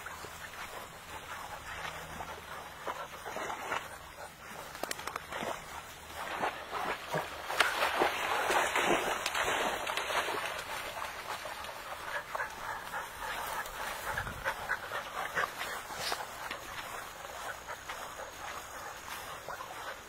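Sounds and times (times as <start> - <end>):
grass and brush rustling: 0.0 - 20.0.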